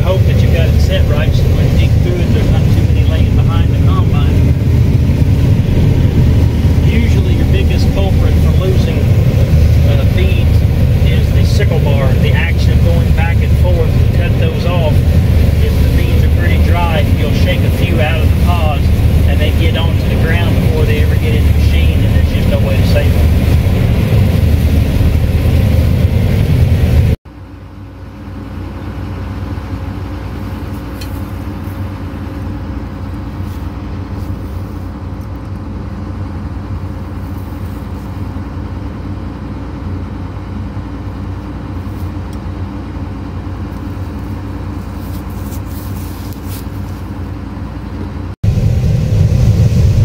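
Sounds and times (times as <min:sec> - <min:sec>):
combine harvester rumbling: 0:00.0 - 0:50.0
machine hum: 0:00.0 - 0:50.0.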